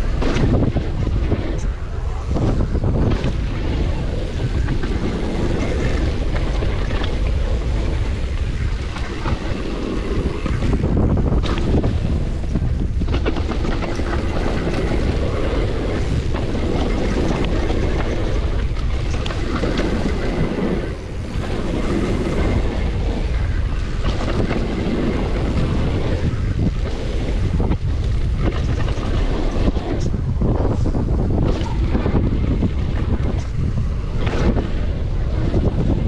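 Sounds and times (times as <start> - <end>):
wind buffeting microphone: 0.0 - 36.0
tyres rolling on gravel: 2.8 - 36.0.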